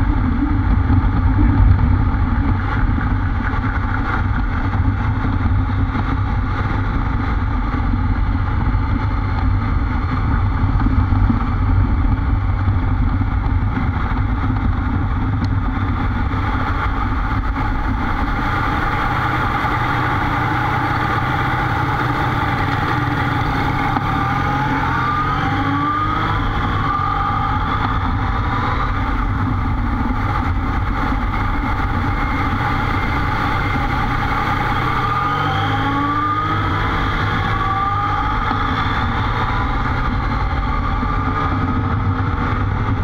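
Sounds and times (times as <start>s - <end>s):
motorcycle engine accelerating: 0.0s - 43.0s
road drone: 0.0s - 43.0s.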